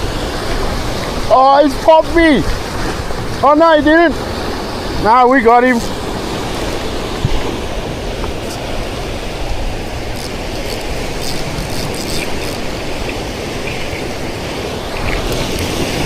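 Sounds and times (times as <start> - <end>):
ocean surf: 0.0 - 16.0
wind buffeting microphone: 0.0 - 16.0.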